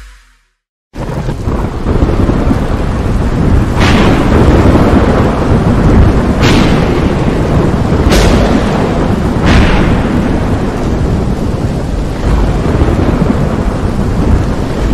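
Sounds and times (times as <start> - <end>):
rain: 1.0 - 14.9
sharp thunder crack: 1.0 - 14.9
thunder rumbling: 1.0 - 14.9.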